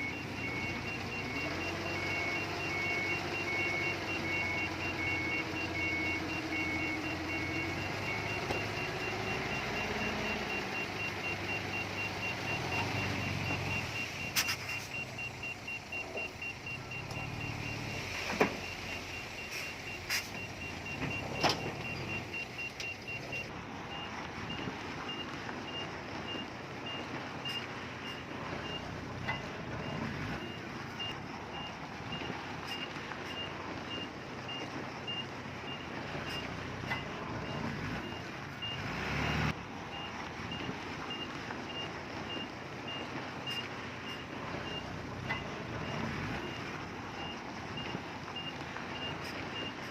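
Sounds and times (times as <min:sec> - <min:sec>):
diesel engine running: 0:00.0 - 0:49.9
reversing alarm beeping: 0:00.0 - 0:49.9.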